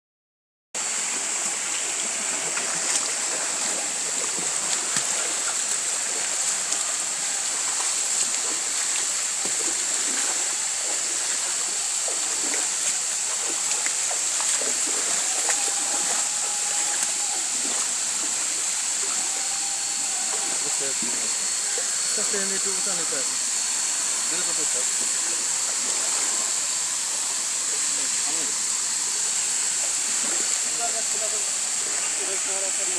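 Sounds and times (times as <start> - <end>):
waterfall rushing and splashing: 0.8 - 32.9.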